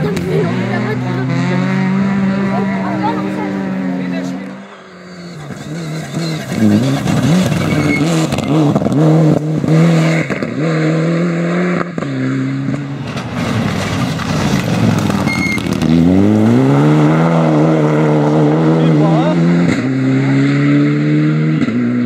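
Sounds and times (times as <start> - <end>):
approaching rally car engine: 0.0 - 22.0
rally car engine shifting gears: 0.0 - 22.0.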